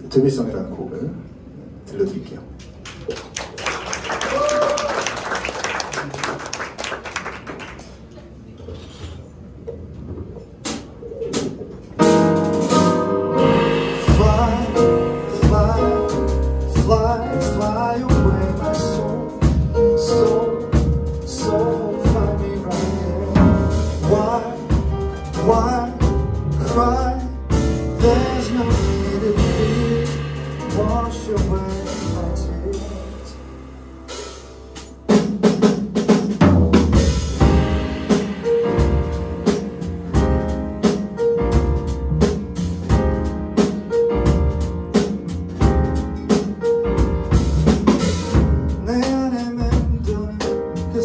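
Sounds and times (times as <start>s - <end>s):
jazz band playing ballad: 9.1s - 51.0s.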